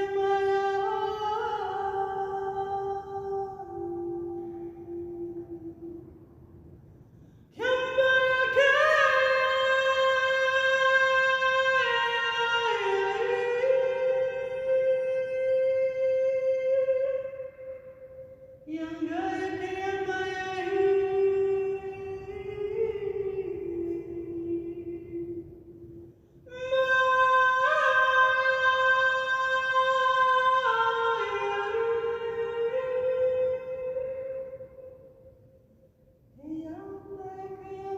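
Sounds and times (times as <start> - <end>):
woman singing unaccompanied: 0.0 - 6.1, 7.6 - 17.8, 18.7 - 25.6, 26.5 - 34.7, 36.4 - 37.9
woman chanting: 0.0 - 6.2, 7.5 - 35.2, 36.4 - 37.9.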